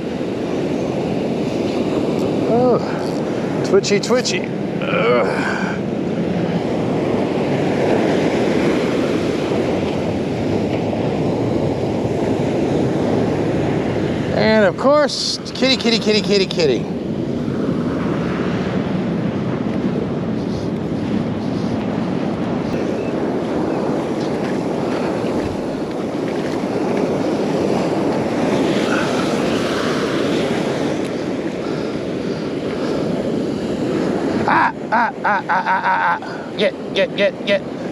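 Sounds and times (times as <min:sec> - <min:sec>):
heavy surf breaking: 0:00.0 - 0:37.9
wind buffeting microphone: 0:00.0 - 0:37.9.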